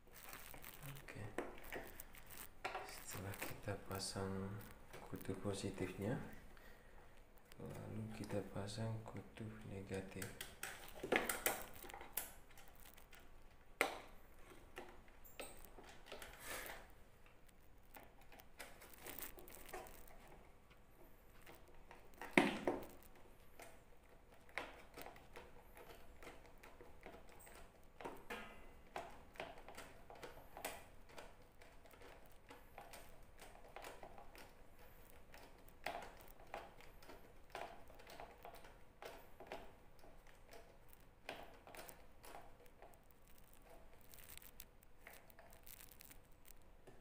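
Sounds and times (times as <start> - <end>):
plastic parts clicking and knocking: 0.1 - 47.0.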